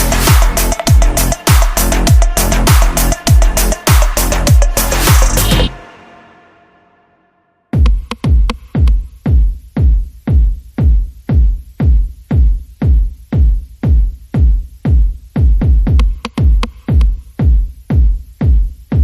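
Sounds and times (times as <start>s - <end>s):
electronic music with kick drum: 0.0s - 6.0s, 7.7s - 19.0s.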